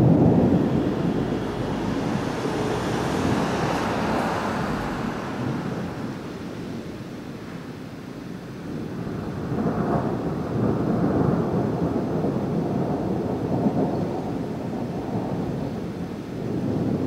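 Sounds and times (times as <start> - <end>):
thunder rumbling: 0.0 - 7.9, 8.5 - 17.0.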